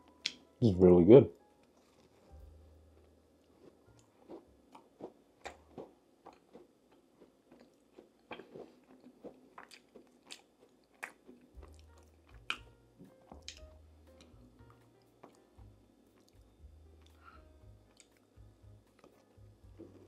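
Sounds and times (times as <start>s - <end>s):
person chewing crunchy food: 1.6s - 15.5s, 16.1s - 20.0s.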